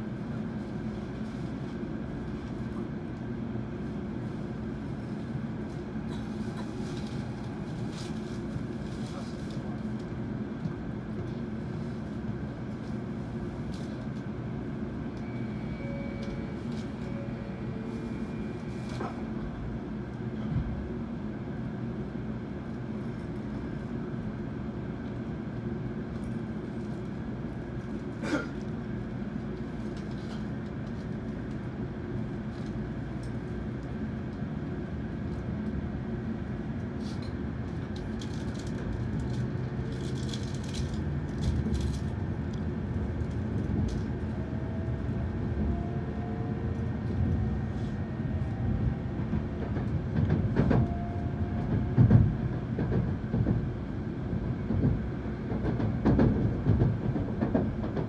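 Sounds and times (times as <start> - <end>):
train rumble from inside carriage: 0.0 - 58.0.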